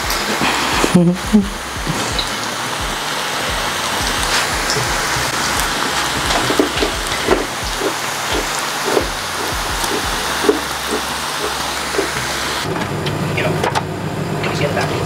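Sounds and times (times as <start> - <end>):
dough deep-frying in oil: 0.0 - 12.7.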